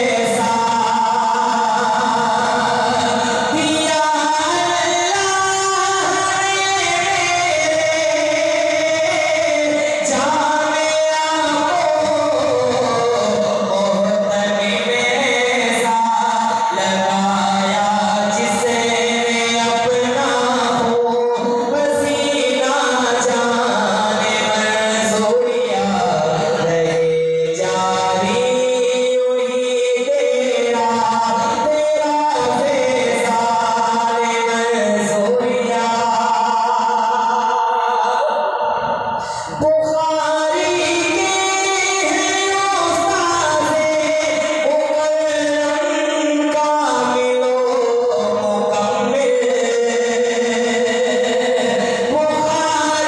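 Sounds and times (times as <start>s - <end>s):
man singing unaccompanied: 0.0s - 53.0s.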